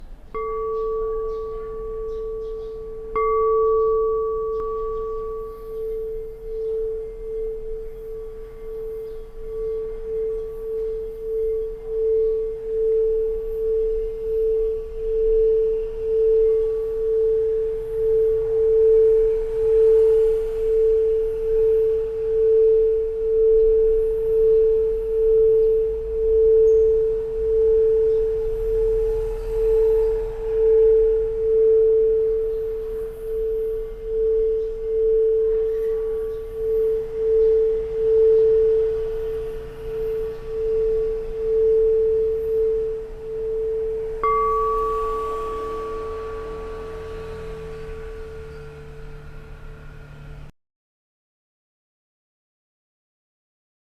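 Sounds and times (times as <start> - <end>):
singing bowl humming tone: 0.0 - 50.5
singing bowl struck: 0.0 - 50.5.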